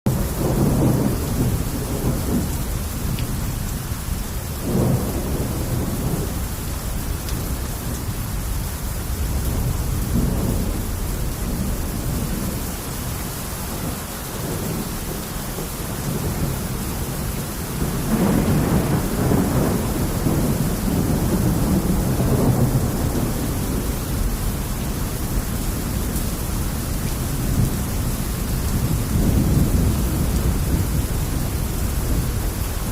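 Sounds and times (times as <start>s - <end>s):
heavy rain pouring: 0.1s - 32.9s.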